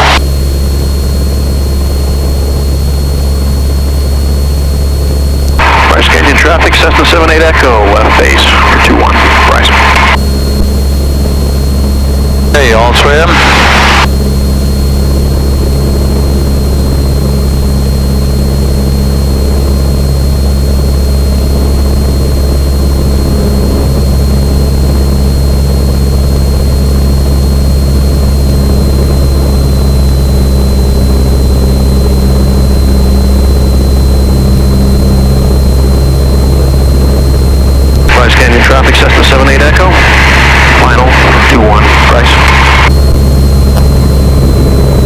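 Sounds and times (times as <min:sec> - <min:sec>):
airplane engine and propeller droning: 0:00.0 - 0:45.0
thin high whine: 0:00.0 - 0:45.0.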